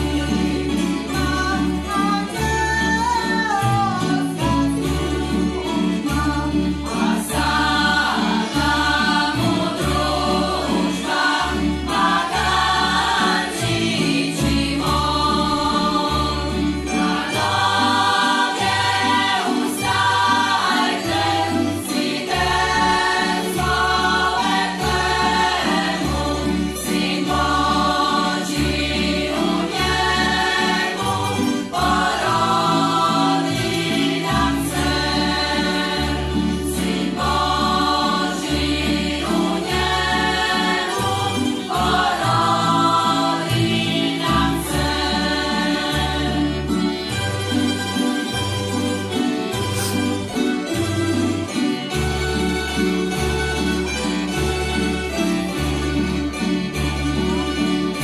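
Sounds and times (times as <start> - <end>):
choir singing in parts: 0.0 - 2.5, 4.0 - 48.5
plucked string ensemble: 0.0 - 58.0.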